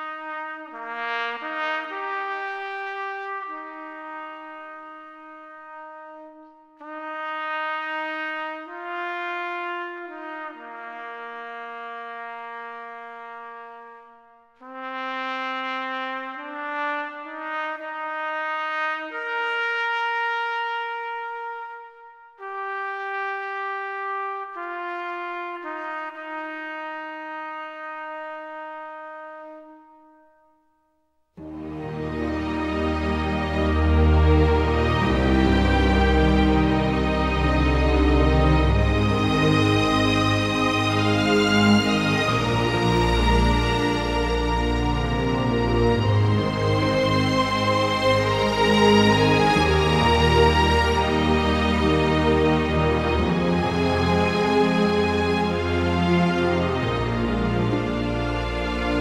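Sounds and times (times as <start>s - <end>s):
slow brass melody: 0.0s - 59.0s.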